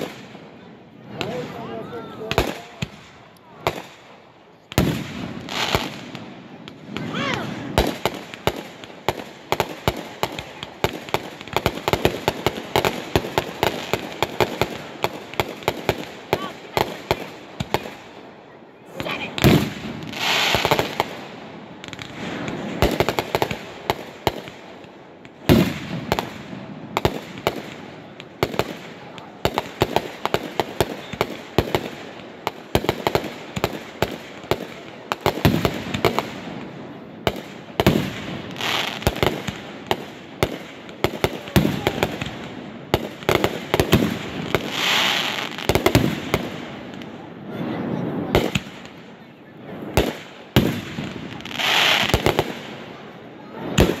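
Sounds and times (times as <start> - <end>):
fireworks bursting and crackling: 0.0 - 54.0
big firework booms: 4.7 - 18.1, 19.0 - 24.6, 25.2 - 49.0, 49.7 - 52.8.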